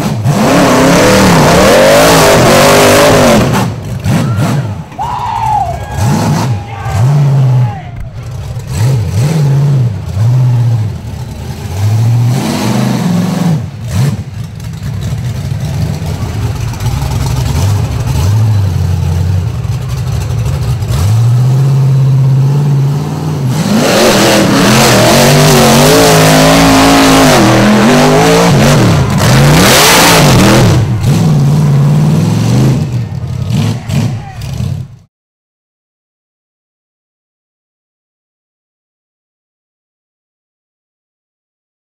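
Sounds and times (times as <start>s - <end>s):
buggy engine revving: 0.0s - 35.1s.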